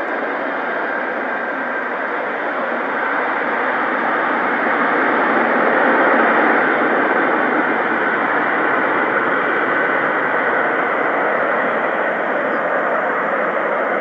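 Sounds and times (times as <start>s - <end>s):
loud jet engine roar: 0.0s - 14.0s.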